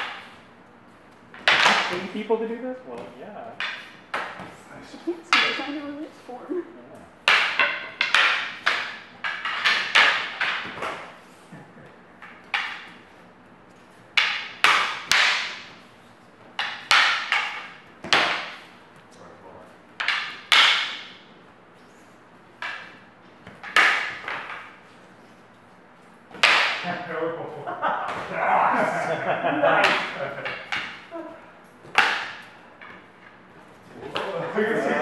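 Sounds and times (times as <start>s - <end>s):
sparring sticks clacking: 0.0s - 6.1s, 7.0s - 19.2s, 19.8s - 27.1s, 27.7s - 34.5s.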